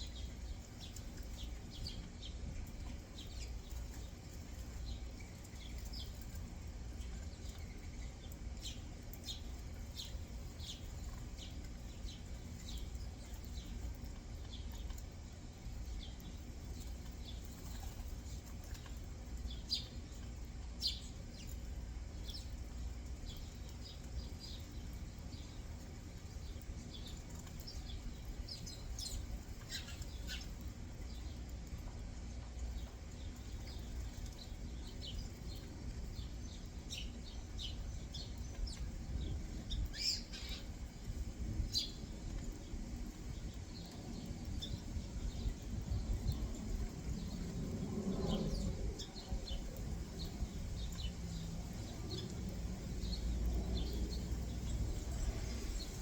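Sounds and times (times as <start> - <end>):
songbirds chirping: 0.0 - 56.0
steady low rumble: 0.0 - 56.0.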